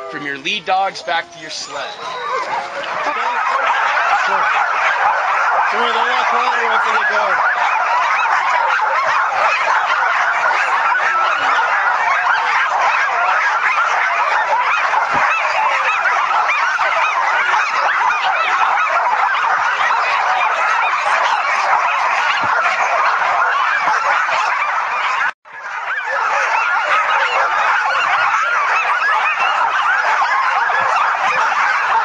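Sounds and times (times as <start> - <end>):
sled dogs barking and yelping: 0.0 - 32.0.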